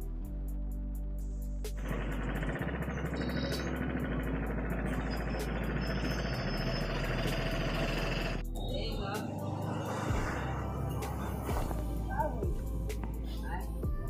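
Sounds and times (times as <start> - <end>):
background music: 0.0 - 14.0
motorcycle engine idling: 1.7 - 14.0.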